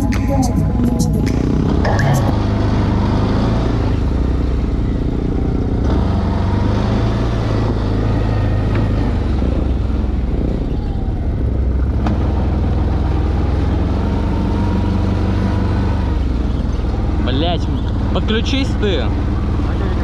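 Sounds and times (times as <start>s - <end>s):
motor vehicle engine drone: 0.0s - 20.0s.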